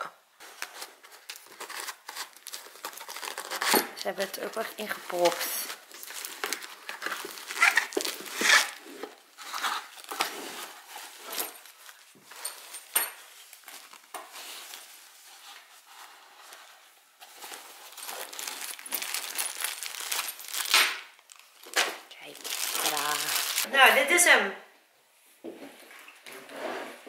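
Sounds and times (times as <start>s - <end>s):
cloth and plastic rustling: 0.3s - 24.0s.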